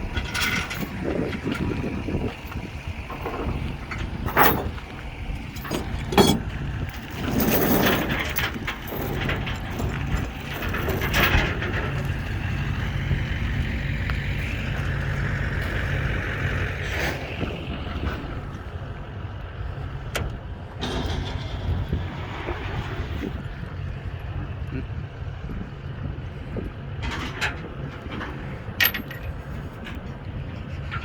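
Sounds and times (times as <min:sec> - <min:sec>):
knocks and clanks: 0:00.0 - 0:18.7, 0:20.0 - 0:23.5, 0:27.0 - 0:31.0
vehicle engine idling: 0:00.0 - 0:31.0.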